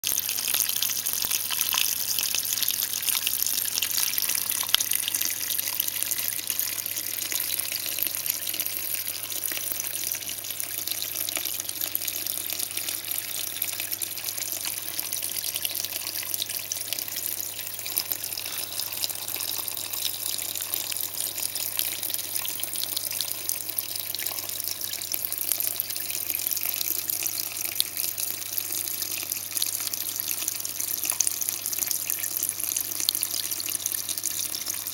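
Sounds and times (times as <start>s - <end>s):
small waterfall trickling: 0.0s - 34.9s.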